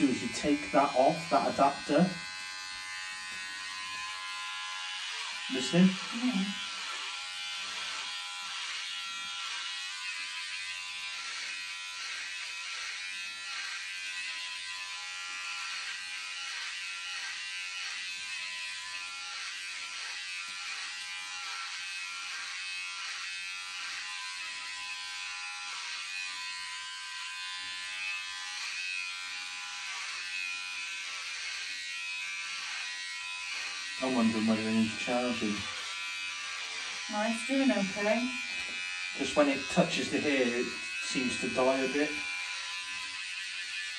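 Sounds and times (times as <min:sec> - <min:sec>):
electric hair clippers buzzing: 0:00.0 - 0:43.9.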